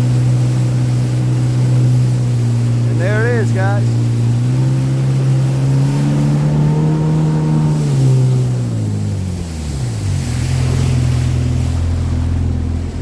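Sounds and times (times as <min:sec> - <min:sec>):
motorboat engine running: 0:00.0 - 0:13.0
water and wind rushing: 0:00.0 - 0:13.0.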